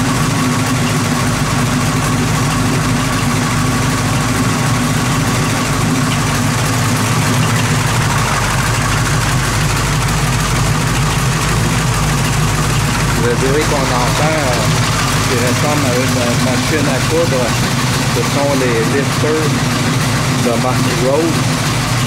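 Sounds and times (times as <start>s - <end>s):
engine idling: 0.0s - 22.0s
rapid valve lifter ticking: 0.0s - 22.0s.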